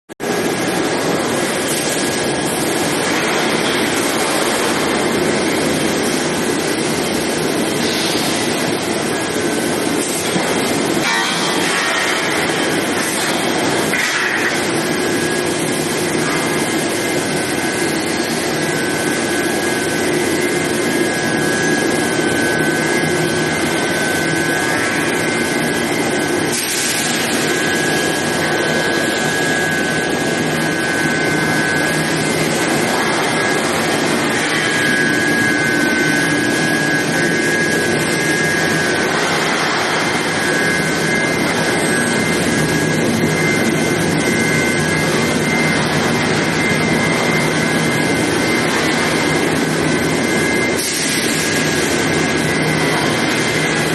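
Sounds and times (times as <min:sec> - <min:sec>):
high whine: 0:00.2 - 0:53.9
industrial roar: 0:00.2 - 0:53.9.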